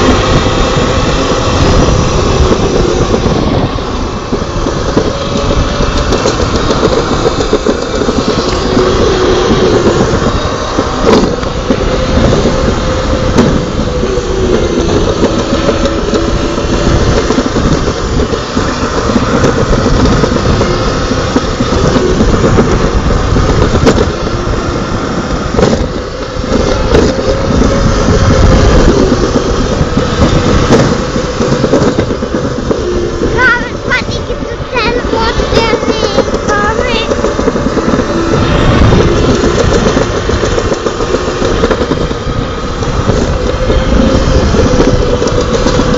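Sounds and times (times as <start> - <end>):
sled knocking in chute: 0.0 - 45.9
sled rumbling down a track: 0.0 - 45.9.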